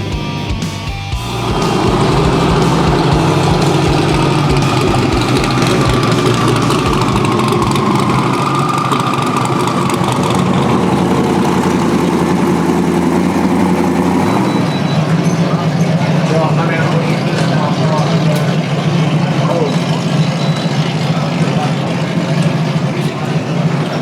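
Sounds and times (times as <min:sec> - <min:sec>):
car engine rumbling at low revs: 0:00.0 - 0:24.0.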